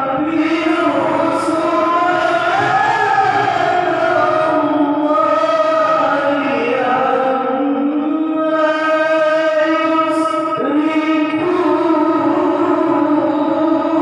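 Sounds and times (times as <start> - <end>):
wordless singing of long notes: 0.0 - 14.0.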